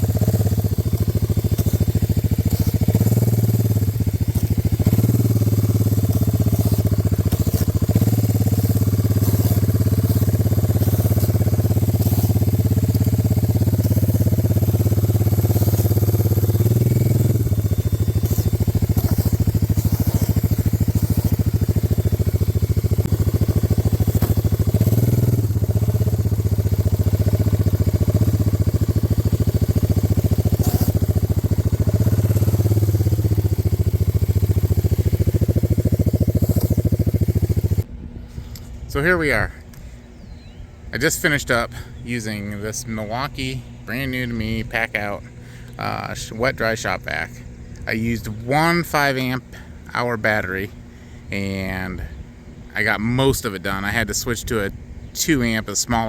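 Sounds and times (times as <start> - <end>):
four-wheeler engine running: 0.0 - 56.0.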